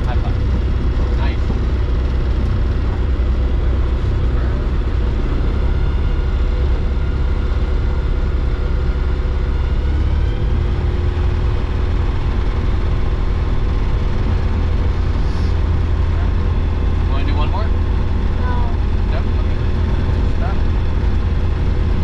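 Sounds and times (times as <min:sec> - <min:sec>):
light airplane engine rumble: 0:00.0 - 0:22.0.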